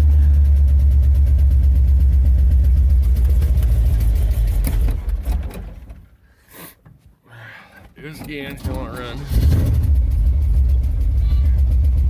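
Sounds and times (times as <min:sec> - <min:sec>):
truck engine idling: 0:00.0 - 0:06.2, 0:08.4 - 0:12.0.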